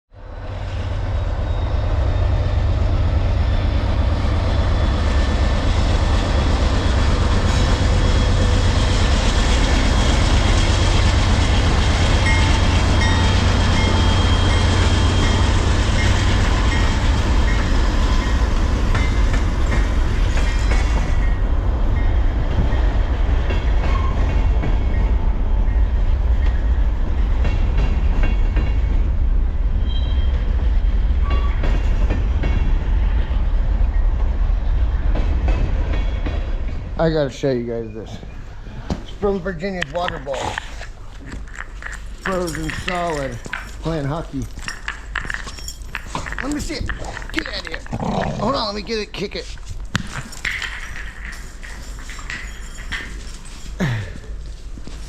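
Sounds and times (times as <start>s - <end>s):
freight train rumbling and rattling: 0.2s - 55.0s.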